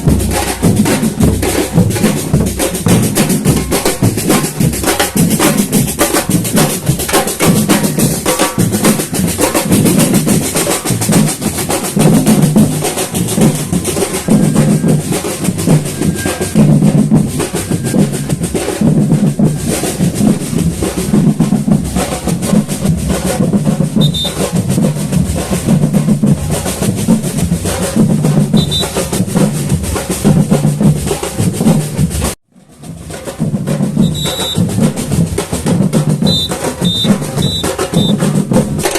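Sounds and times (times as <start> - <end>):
samba drum ensemble: 0.0 - 38.9.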